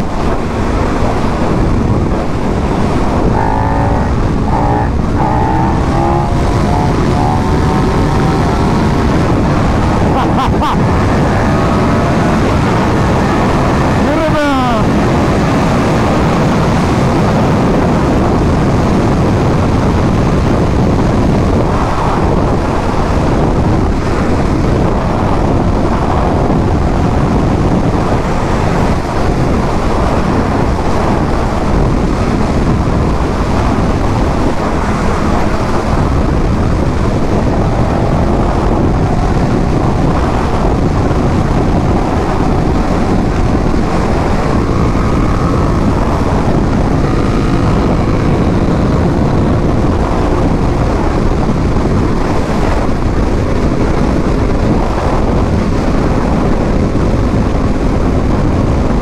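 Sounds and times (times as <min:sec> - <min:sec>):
motorcycle engine: 0:00.0 - 0:59.0
wind rushing over microphone: 0:00.0 - 0:59.0.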